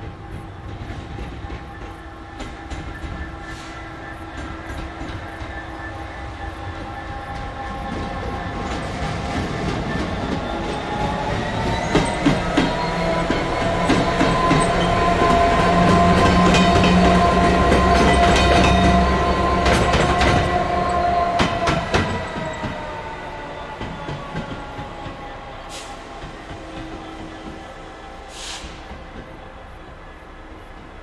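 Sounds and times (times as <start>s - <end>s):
diesel locomotive passing: 0.0s - 31.0s.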